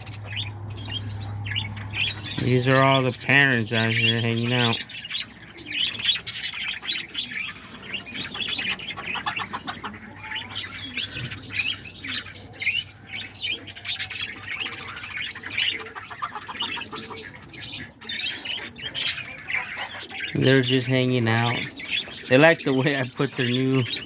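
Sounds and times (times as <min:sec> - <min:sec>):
parakeets chirping and chattering: 0:00.0 - 0:24.0.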